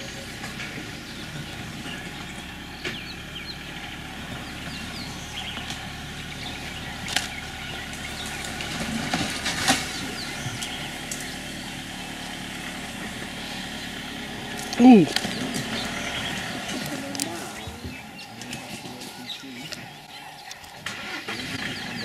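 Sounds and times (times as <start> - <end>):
bird chirps: 0.0 - 22.0
idling engine hum: 0.0 - 22.0.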